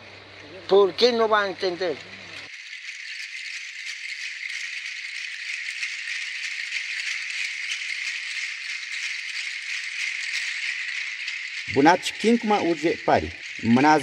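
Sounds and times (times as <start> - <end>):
rattle shaken fast: 0.7 - 14.0.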